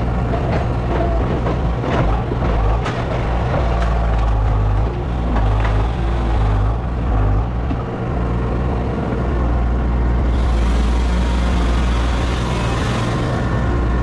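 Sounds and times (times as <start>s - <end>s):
large engine running: 0.0s - 14.0s.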